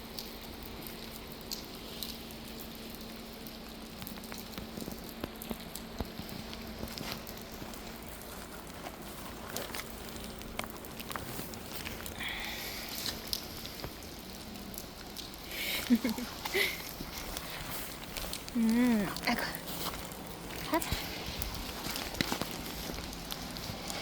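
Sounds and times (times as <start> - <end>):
faint steady hum: 0.0 - 24.0
raindrops ticking on a surface: 0.0 - 24.0
steady rain patter: 0.0 - 24.0.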